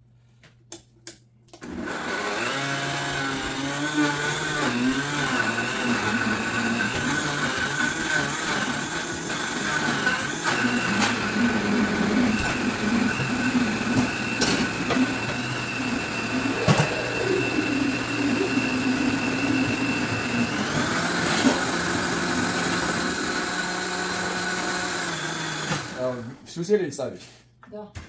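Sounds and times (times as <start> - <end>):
blender whining: 1.6 - 26.4.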